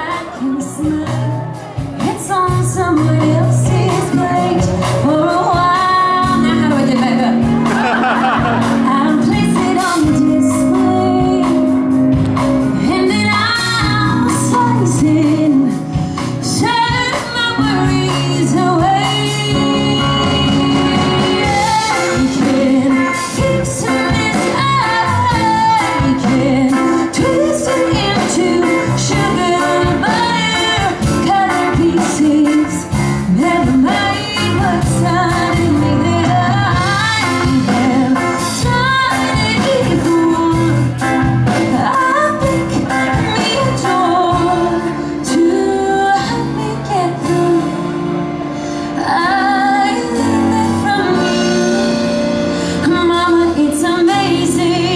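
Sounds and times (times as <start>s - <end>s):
woman singing into microphone: 0.0s - 12.1s, 12.7s - 54.9s.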